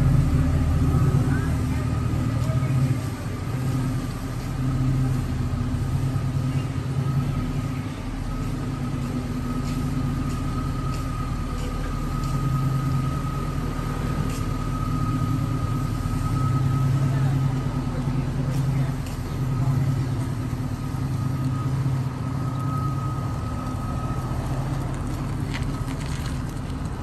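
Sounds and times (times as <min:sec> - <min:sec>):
car engine idling exhaust rumble: 0:00.0 - 0:27.0.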